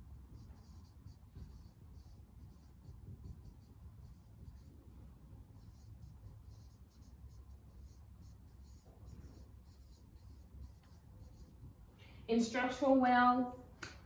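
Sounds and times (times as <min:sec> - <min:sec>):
scratching of writing: 0:00.0 - 0:11.9.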